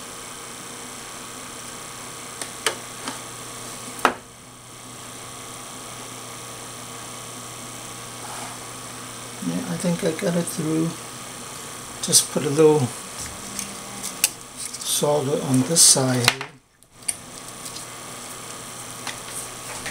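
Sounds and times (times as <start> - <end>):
electrical hum with high whine: 0.0 - 19.9.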